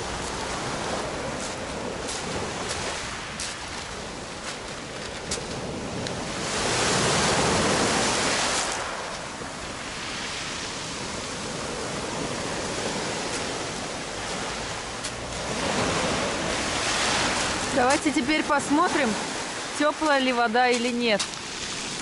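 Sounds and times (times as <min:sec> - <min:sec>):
waves washing over pebbles: 0:00.0 - 0:22.0.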